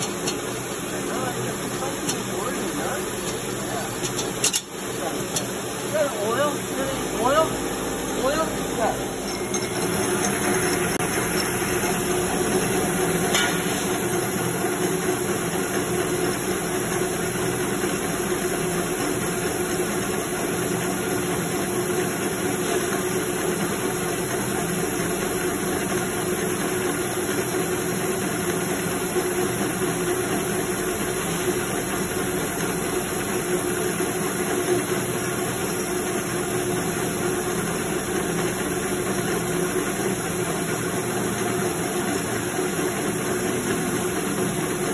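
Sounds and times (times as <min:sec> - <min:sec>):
folding machine humming: 0:00.0 - 0:44.9.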